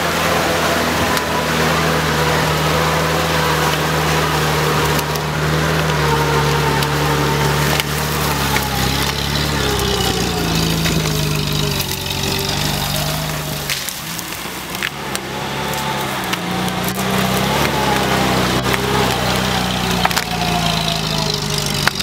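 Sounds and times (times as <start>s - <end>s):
off-road vehicle engine under load: 0.0s - 22.0s
sharp cracks: 0.8s - 22.0s.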